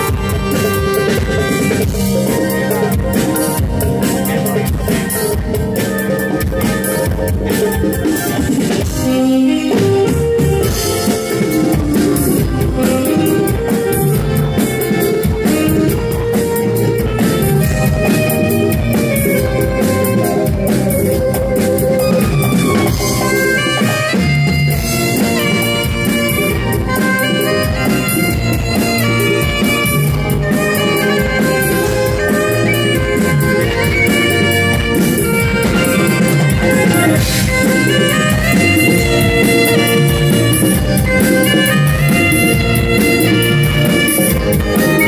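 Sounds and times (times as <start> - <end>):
live band playing: 0.0 - 45.0
saxophone melody: 0.0 - 45.0.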